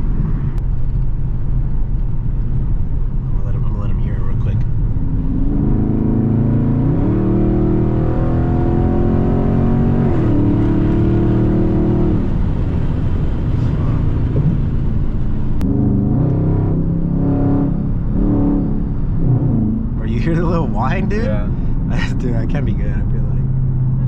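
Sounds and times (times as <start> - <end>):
car exhaust accelerating: 0.0 - 24.0
engine revs: 3.4 - 12.5, 13.4 - 24.0.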